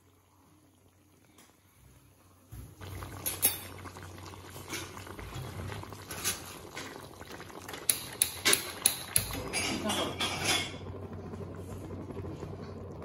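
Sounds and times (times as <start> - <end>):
chicken bubbling in oil: 0.0 - 13.0.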